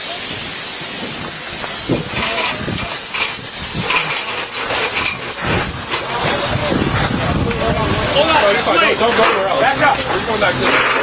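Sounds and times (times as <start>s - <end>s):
gas hissing from pipe: 0.0s - 11.0s
faint voices: 1.9s - 11.0s.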